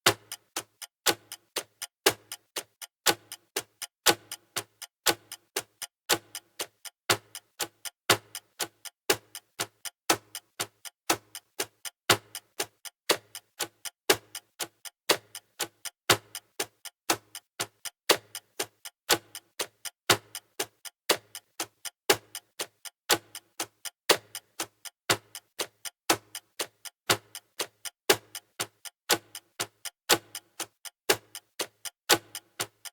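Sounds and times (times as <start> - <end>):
clocks ticking: 0.1 - 32.9.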